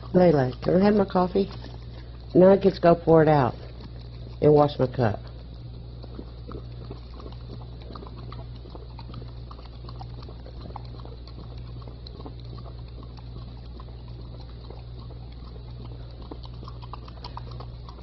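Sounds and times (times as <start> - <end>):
dog lapping from cup: 0.0 - 18.0
steady low hum: 0.0 - 18.0.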